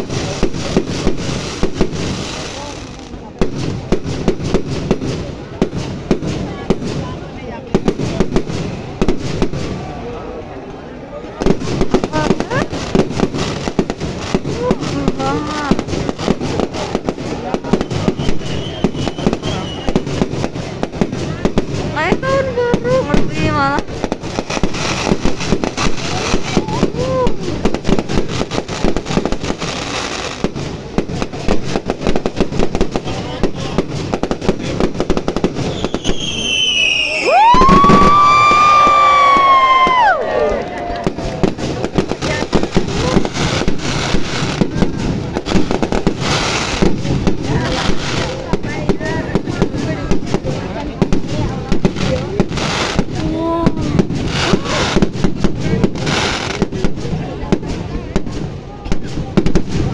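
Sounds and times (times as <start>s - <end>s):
fireworks exploding: 0.0s - 59.9s.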